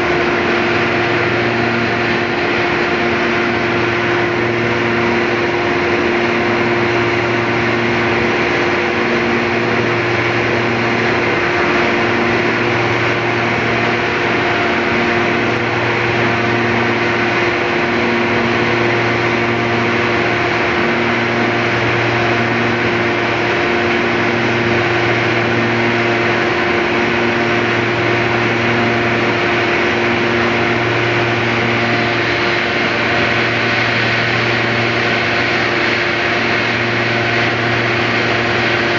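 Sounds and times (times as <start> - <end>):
drying machine running: 0.0 - 38.9
low pulsing throb: 0.0 - 38.9.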